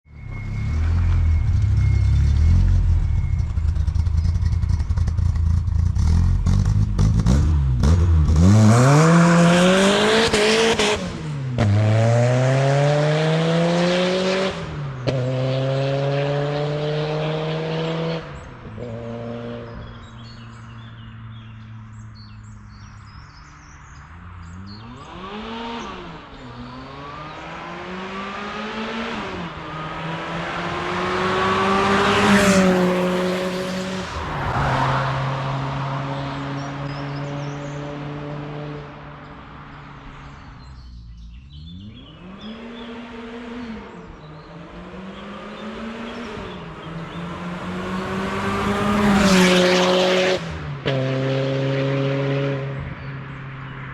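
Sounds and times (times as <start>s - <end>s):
car engine rumbling and accelerating: 0.0s - 53.9s.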